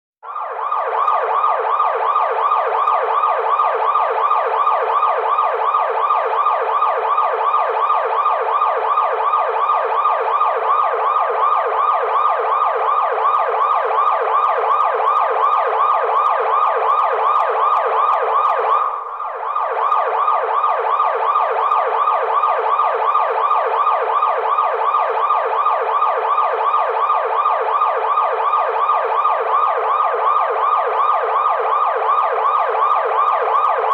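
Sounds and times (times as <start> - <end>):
car alarm siren warbling: 0.2 - 33.9.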